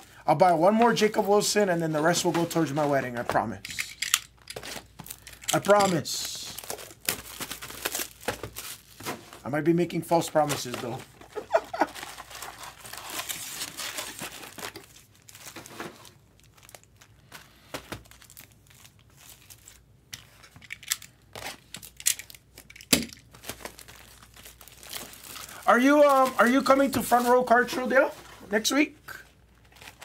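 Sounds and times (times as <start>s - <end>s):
packaging crinkling and tearing: 0.8s - 9.4s, 10.2s - 28.2s, 29.2s - 30.0s.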